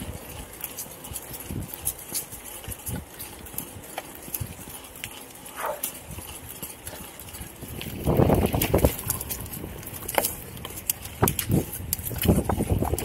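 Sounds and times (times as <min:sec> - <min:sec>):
footsteps on outdoor path: 0:00.0 - 0:13.0
rustle: 0:00.0 - 0:13.0.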